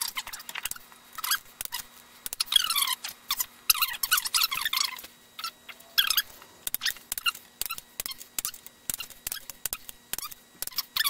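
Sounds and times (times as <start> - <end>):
fasteners squeaking: 0.0 - 11.0.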